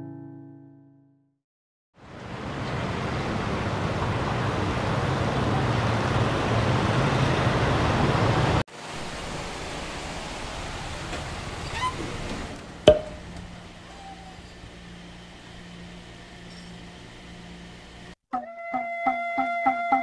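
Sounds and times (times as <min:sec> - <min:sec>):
street traffic noise: 0:02.0 - 0:18.2.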